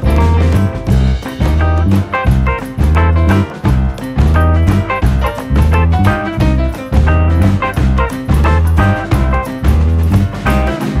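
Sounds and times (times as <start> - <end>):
background music with heavy bass: 0.0 - 11.0.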